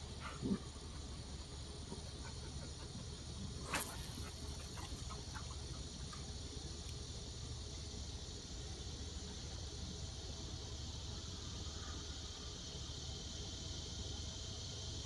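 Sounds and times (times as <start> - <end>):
outdoor background hiss and hum: 0.0 - 15.0.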